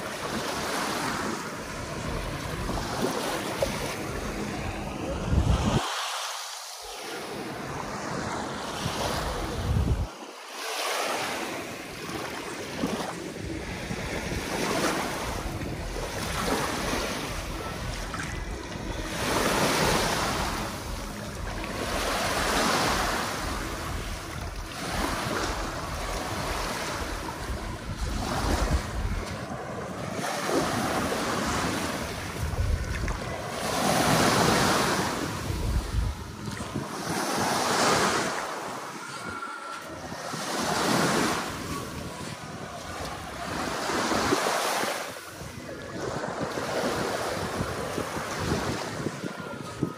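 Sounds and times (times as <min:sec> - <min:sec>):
wind buffeting microphone: 0:00.0 - 0:05.8, 0:08.7 - 0:10.2, 0:11.9 - 0:49.9
sea waves breaking on beach: 0:00.0 - 0:49.9.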